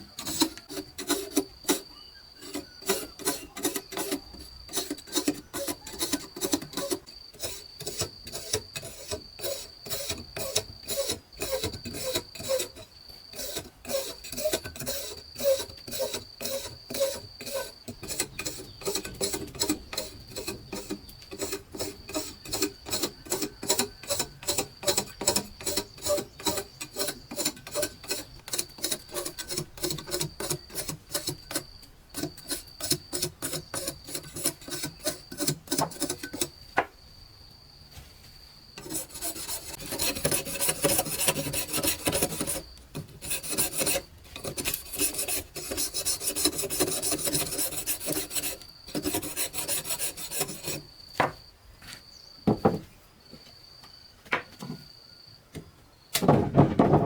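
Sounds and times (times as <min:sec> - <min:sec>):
blade scraping with rasping strokes: 0:00.0 - 0:36.6, 0:38.8 - 0:50.9.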